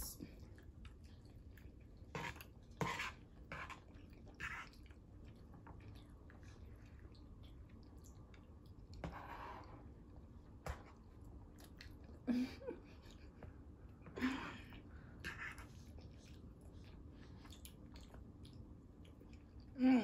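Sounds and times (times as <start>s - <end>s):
close-up chewing: 0.4s - 9.0s, 9.7s - 14.1s, 14.7s - 19.8s.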